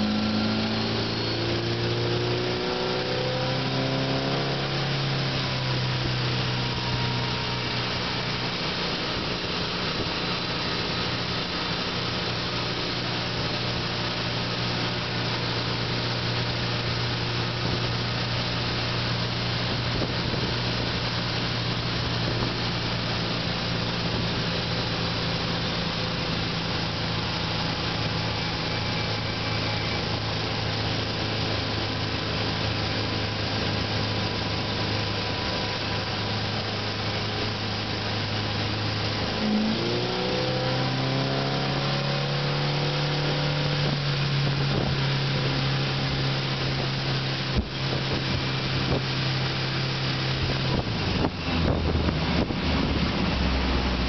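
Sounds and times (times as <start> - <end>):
boat engine running: 0.0 - 54.0
hull and wake water: 0.0 - 54.0.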